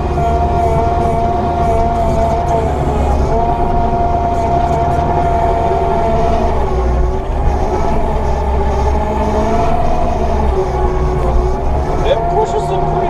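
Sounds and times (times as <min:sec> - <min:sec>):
diesel engine rumbling under load: 0:00.0 - 0:13.0
hydraulic whine: 0:00.0 - 0:13.0.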